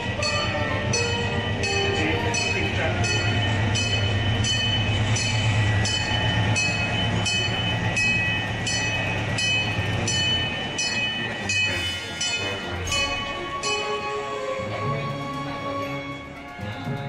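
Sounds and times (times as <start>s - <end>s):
small train running hum: 0.0s - 17.0s.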